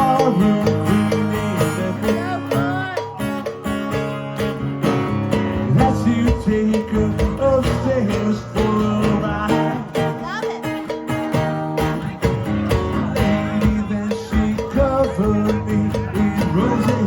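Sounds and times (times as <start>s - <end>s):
cowbell keeping a steady beat: 0.0s - 17.0s
live band playing: 0.0s - 17.0s.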